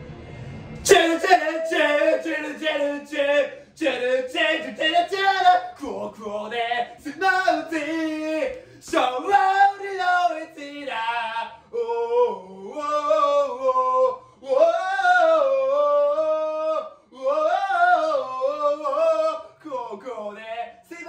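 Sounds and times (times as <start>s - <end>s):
man singing unaccompanied: 0.8s - 21.0s.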